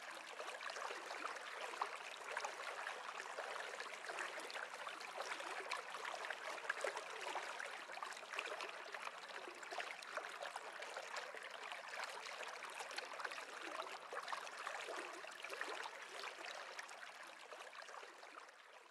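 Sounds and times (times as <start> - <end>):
stream trickling and gurgling: 0.0 - 18.9.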